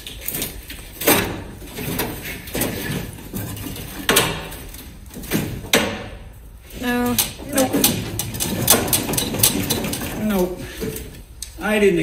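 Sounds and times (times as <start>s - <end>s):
metal clunks and knocks: 0.3s - 6.4s, 7.0s - 11.2s.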